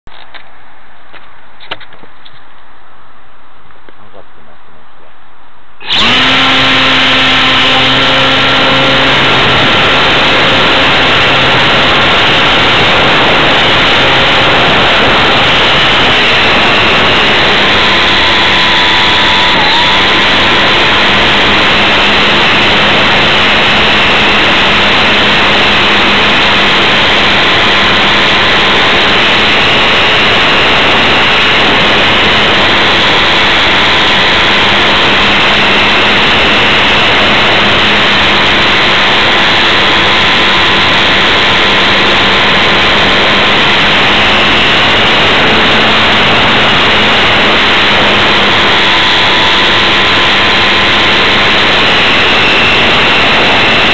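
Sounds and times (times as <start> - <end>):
model airplane motor buzzing: 5.8 - 53.9
wind rush: 5.8 - 53.9.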